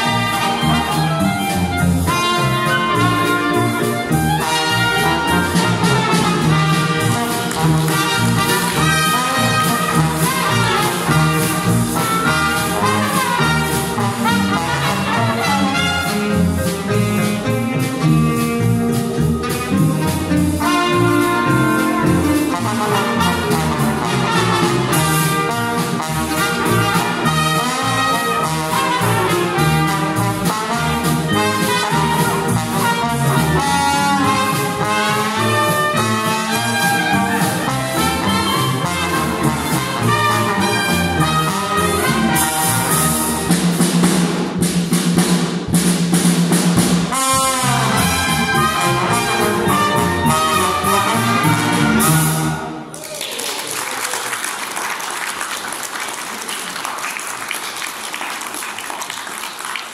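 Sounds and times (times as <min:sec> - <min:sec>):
jazz band playing: 0:00.0 - 0:52.9.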